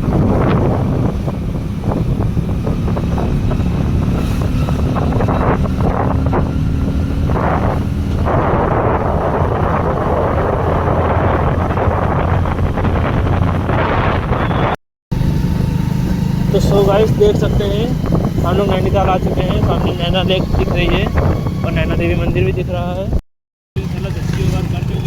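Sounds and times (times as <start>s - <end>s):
road noise: 0.0s - 23.2s, 23.8s - 25.0s
vehicle engine running: 0.0s - 23.2s, 23.8s - 25.0s
wind buffeting microphone: 0.0s - 23.2s.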